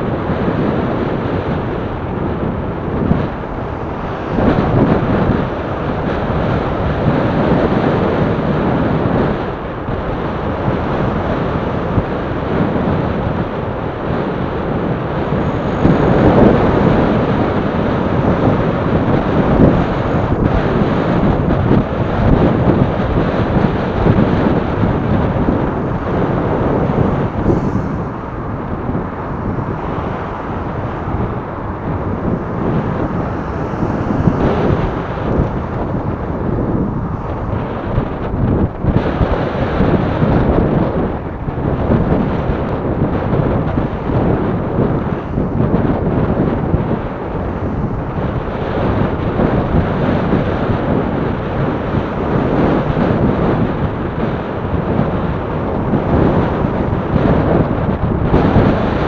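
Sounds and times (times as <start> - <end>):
road and traffic noise: 0.0 - 59.0
wind rumbling on microphone: 0.0 - 59.0.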